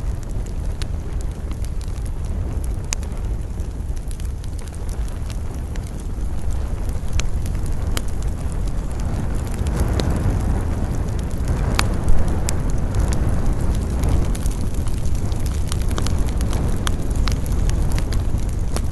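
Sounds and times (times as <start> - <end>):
campfire crackling and popping: 0.0 - 18.9
wind rumbling: 0.0 - 18.9.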